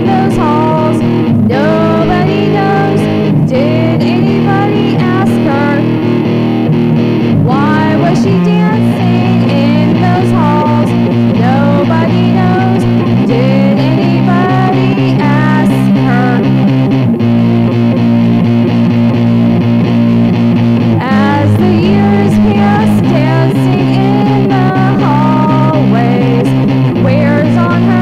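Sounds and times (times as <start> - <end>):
electric guitar lead with bent notes: 0.0 - 28.0
held guitar chords: 0.0 - 28.0.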